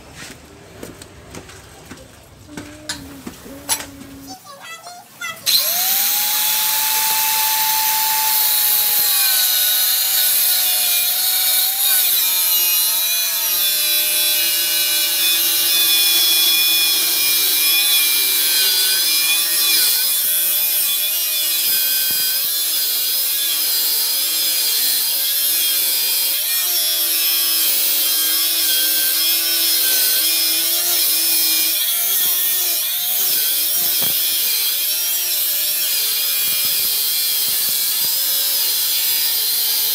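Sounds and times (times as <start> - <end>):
angle grinder cutting metal: 5.4 - 39.9.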